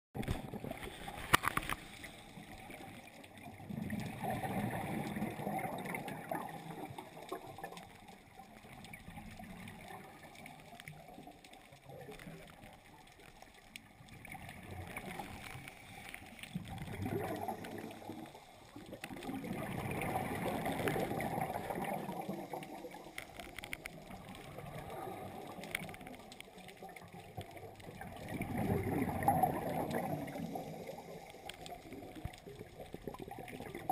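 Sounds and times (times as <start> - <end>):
exhaled bubbles gurgling: 0.2 - 33.9.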